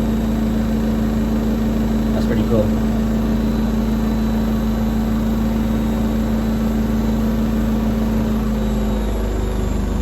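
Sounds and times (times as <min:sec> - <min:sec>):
washing machine spinning: 0:00.0 - 0:10.0.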